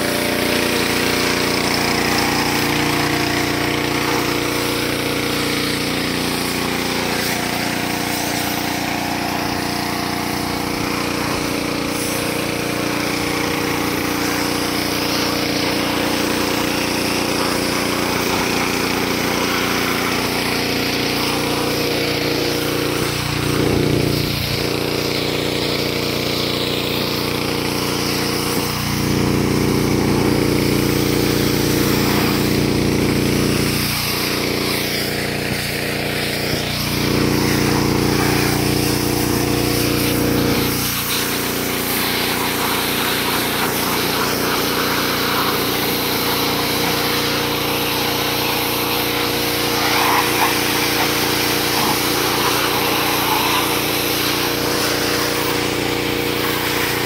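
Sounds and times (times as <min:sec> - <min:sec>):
pressure washer pump hum: 0:00.0 - 0:57.0
water jet hissing: 0:00.0 - 0:57.0.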